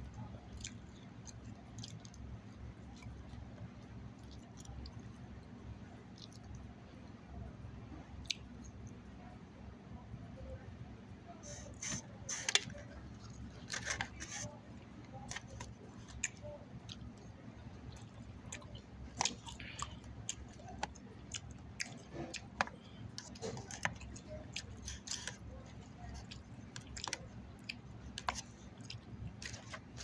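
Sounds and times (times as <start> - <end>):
close-up chewing with mouth smacks: 0.0 - 7.2, 7.9 - 9.2, 11.8 - 30.0.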